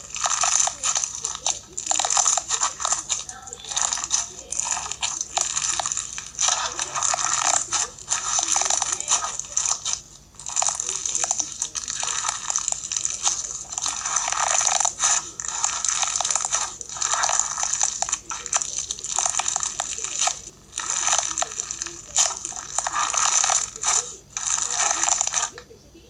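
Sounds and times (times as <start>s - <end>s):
slime crunching and crackling: 0.0s - 25.7s.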